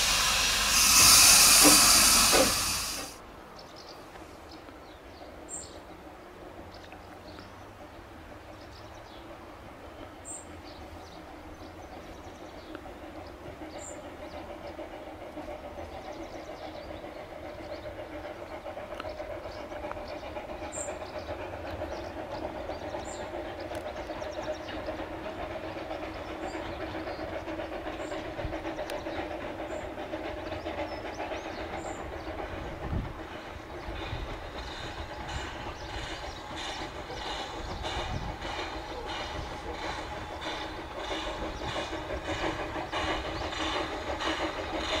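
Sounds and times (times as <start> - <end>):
steam locomotive regular beat: 0.0 - 3.2, 10.8 - 45.0
train wheels rumbling on rail: 0.0 - 45.0.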